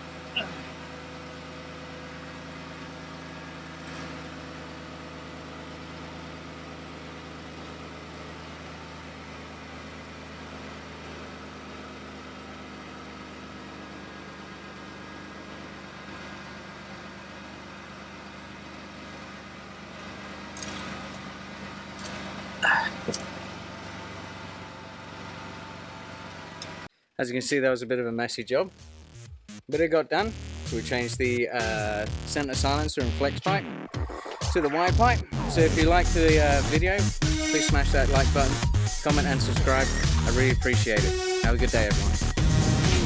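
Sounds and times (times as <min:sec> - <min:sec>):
car engine idling: 0:00.0 - 0:26.9, 0:30.2 - 0:43.0.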